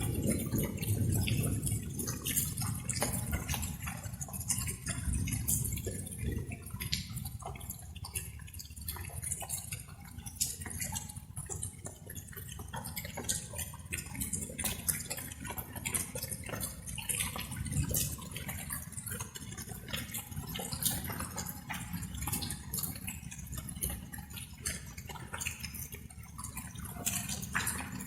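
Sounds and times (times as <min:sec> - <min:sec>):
light rain dripping: 0:00.0 - 0:28.0.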